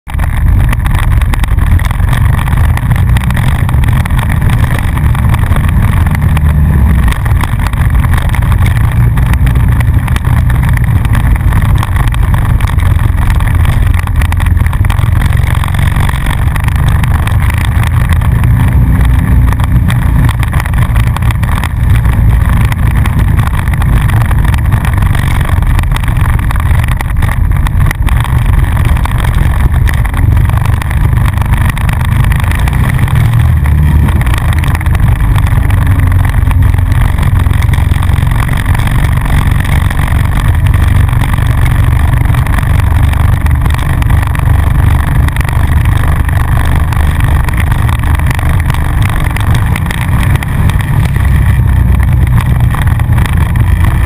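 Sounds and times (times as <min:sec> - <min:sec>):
atv engine running under load: 0:00.0 - 0:54.0.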